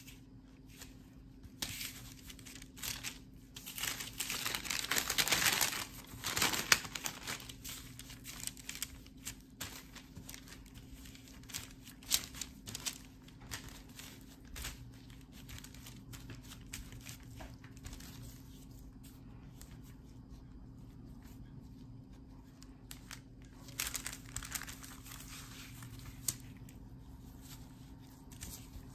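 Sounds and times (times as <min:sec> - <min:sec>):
baking paper crinkling: 0:00.0 - 0:28.9.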